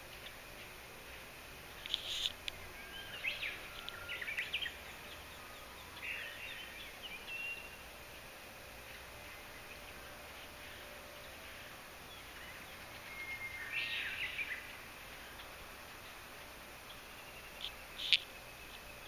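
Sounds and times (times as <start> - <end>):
faint outdoor hiss: 0.0 - 19.0
small birds singing: 0.0 - 19.0.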